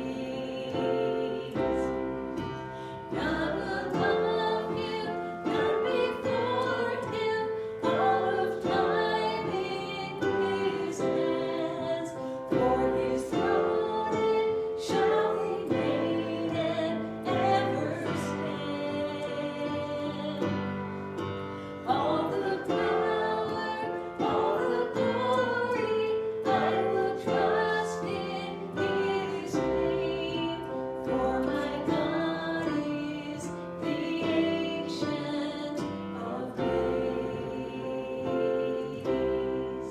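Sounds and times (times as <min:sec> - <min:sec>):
gospel song with accompaniment: 0:00.0 - 0:39.9.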